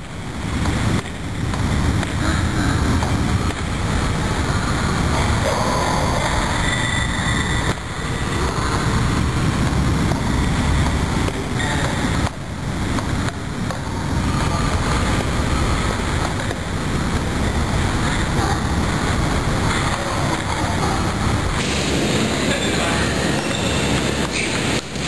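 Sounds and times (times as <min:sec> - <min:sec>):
loud rushing noise: 0:00.0 - 0:25.0.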